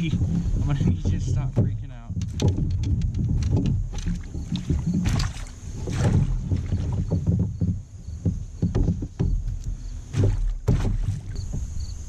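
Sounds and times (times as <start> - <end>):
fish thrashing against kayak hull: 0.0 - 12.0.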